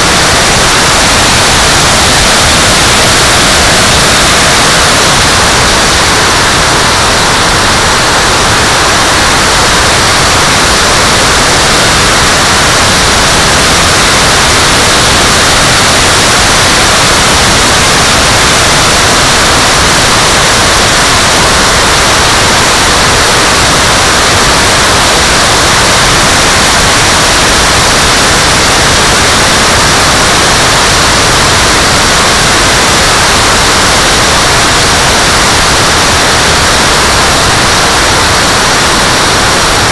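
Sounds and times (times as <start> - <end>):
electric ducted fan rushing: 0.0 - 39.9.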